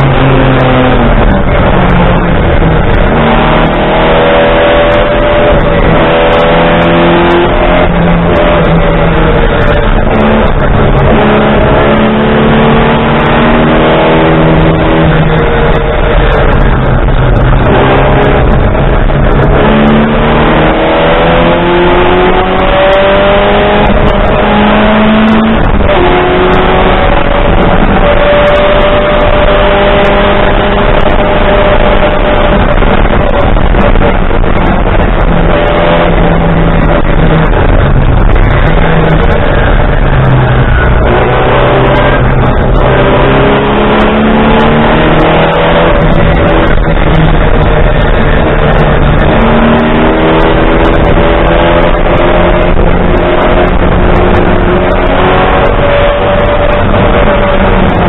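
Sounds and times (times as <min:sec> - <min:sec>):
race car engine revving: 0:00.0 - 0:58.0
wind and road noise: 0:00.0 - 0:58.0.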